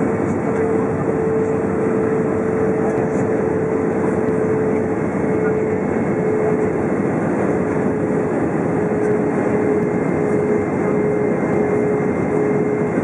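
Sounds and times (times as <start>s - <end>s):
airliner cabin engine roar: 0.0s - 13.0s.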